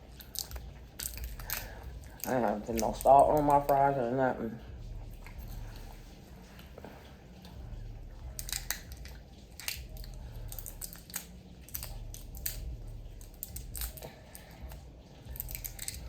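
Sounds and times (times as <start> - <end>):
chewing crispy fried food: 0.0 - 16.0.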